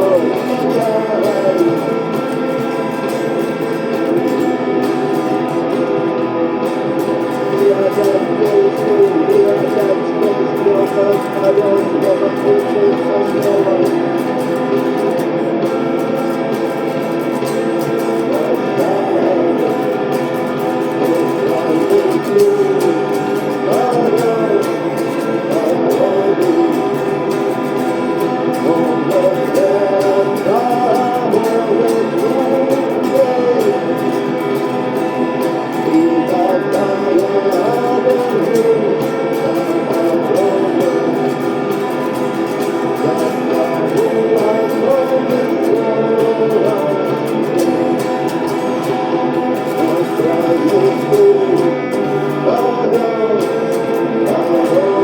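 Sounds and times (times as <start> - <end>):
electric guitar chords: 0.0 - 55.0
person singing: 0.0 - 55.0.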